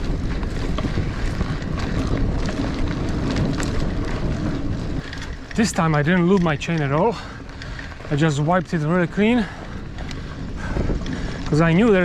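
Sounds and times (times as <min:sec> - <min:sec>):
bike clicks and rattles: 0:00.0 - 0:12.0
bike tyre rumble on sand: 0:00.0 - 0:12.0
wind on microphone: 0:00.0 - 0:12.0.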